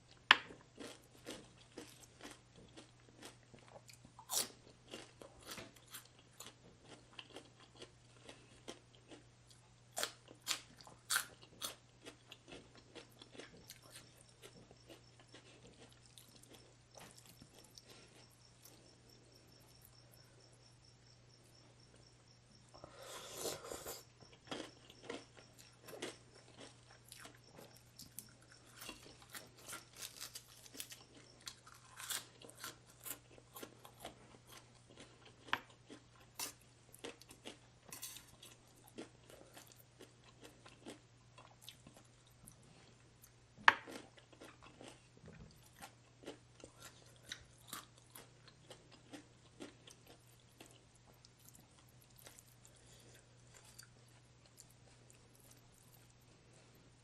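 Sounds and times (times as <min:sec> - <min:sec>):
person chewing crisp food: 0:00.0 - 0:22.1, 0:22.8 - 0:57.0.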